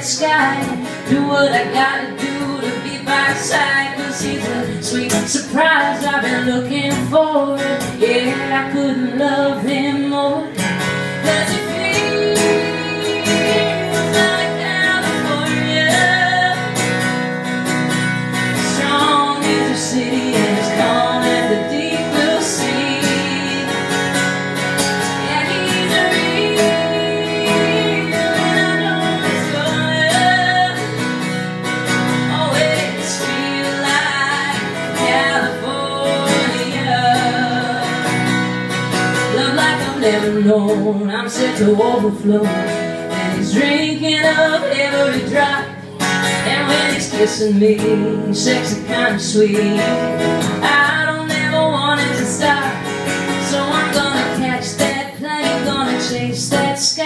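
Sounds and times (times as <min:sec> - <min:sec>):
strummed acoustic guitar: 0:00.0 - 0:57.0
woman singing: 0:00.0 - 0:57.0.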